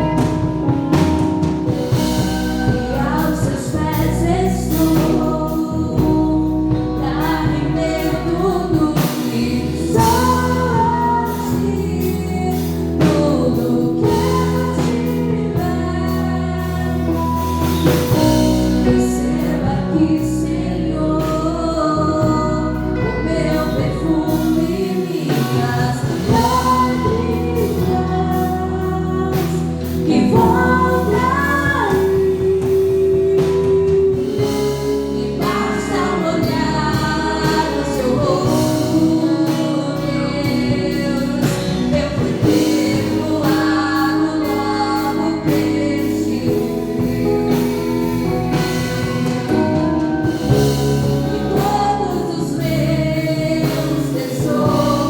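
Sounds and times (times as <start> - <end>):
band with bass and drums: 0.0 - 55.0
person singing worship song: 1.7 - 55.0.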